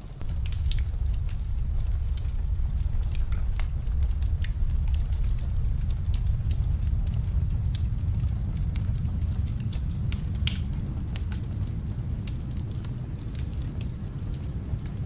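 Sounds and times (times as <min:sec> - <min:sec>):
low rumble: 0:00.0 - 0:15.0
wood fire crackling and popping: 0:00.0 - 0:15.0.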